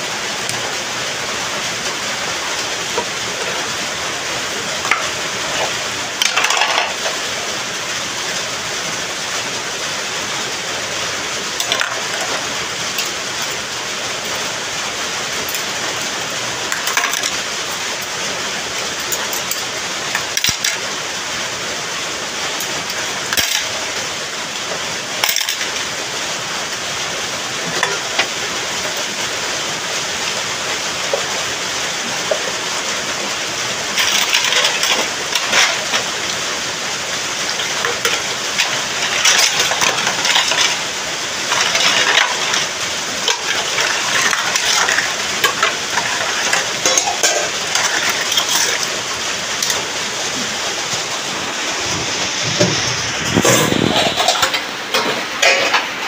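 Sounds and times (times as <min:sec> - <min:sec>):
rain hissing: 0:00.0 - 0:56.0
dishes clinking and splashing: 0:01.7 - 0:07.5, 0:11.4 - 0:14.5, 0:15.3 - 0:20.9, 0:22.5 - 0:26.0, 0:27.1 - 0:56.0.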